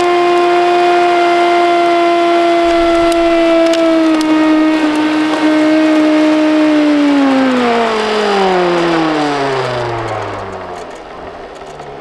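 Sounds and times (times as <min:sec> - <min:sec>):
vacuum cleaner motor whining: 0:00.0 - 0:11.5.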